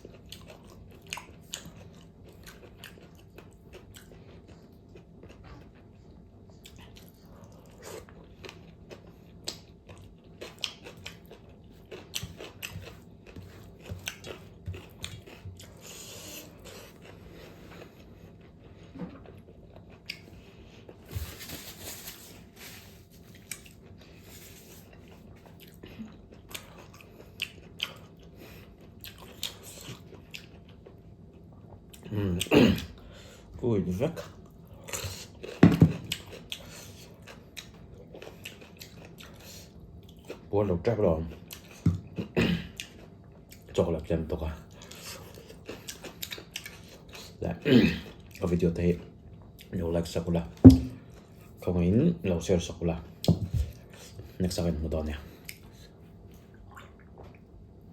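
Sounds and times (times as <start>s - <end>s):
person chewing pork fat: 0.0s - 21.2s, 22.7s - 51.6s, 53.1s - 57.9s.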